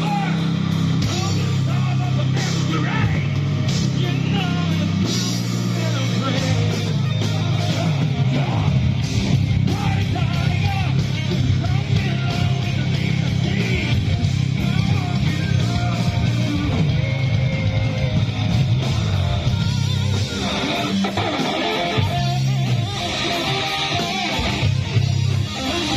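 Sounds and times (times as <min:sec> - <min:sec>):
live rock band: 0:00.0 - 0:25.9
person singing and yelling: 0:00.0 - 0:25.9.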